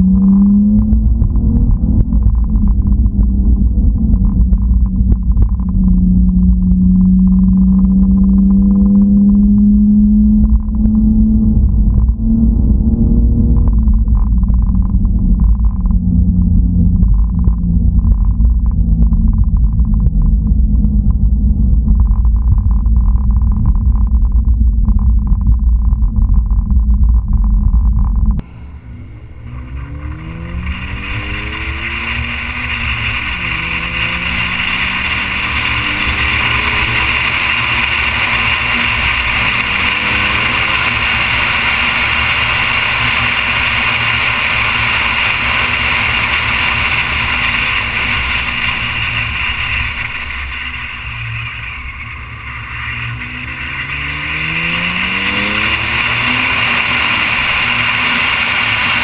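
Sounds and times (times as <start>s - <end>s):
car engine accelerating: 0.0s - 22.4s, 28.4s - 59.0s
wind and road noise: 0.0s - 59.0s.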